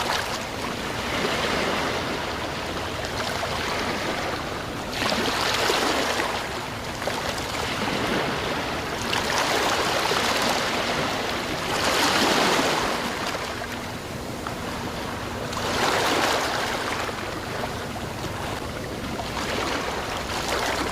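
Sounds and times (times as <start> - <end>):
sea waves washing ashore: 0.0 - 20.9.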